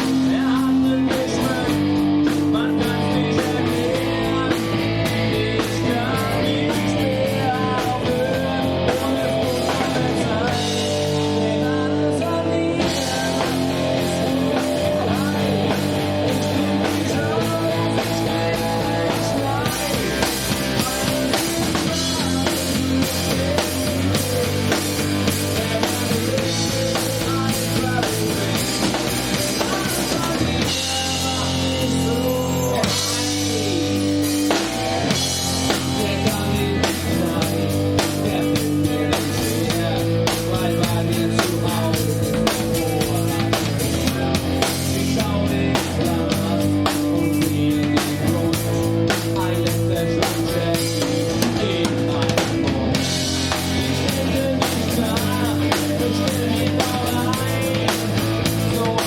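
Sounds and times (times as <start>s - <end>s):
drum kit: 0.0s - 59.0s
electric guitars: 0.0s - 59.0s
rock band playing: 0.0s - 59.0s.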